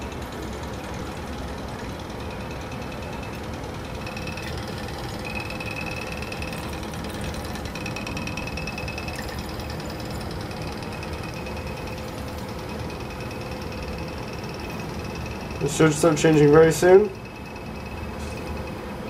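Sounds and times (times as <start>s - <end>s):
machinery hum and rumble: 0.0s - 19.0s
faint high whine: 2.2s - 19.0s.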